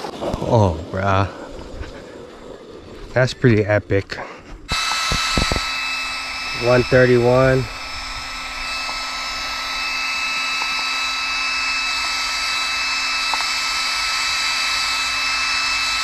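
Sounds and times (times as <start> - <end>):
small cooling fans whining: 0.0 - 16.0.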